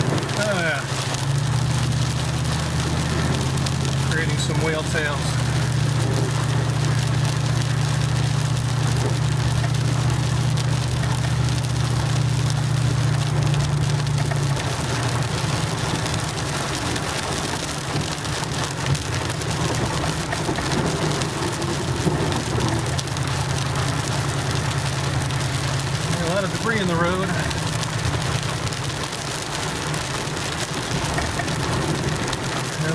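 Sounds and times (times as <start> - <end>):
truck engine drone: 0.0 - 32.9
tyres spraying through water: 0.0 - 32.9.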